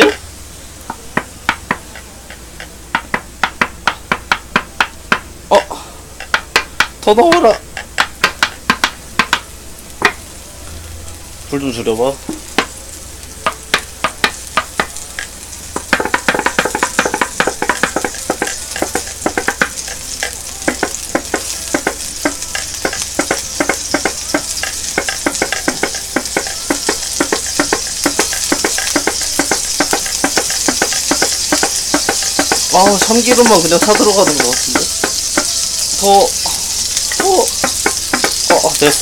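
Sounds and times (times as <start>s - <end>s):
oil crackling and popping: 0.0s - 5.6s, 6.2s - 39.0s
oil sizzling in a pot: 0.0s - 39.0s.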